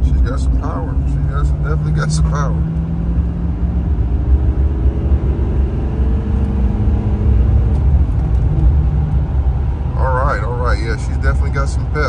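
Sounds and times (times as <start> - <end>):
diesel engine rumble: 0.0 - 12.0
road noise: 0.0 - 12.0.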